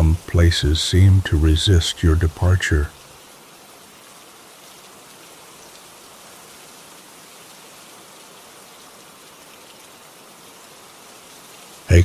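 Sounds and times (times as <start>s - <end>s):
steady rainfall: 0.0s - 12.0s.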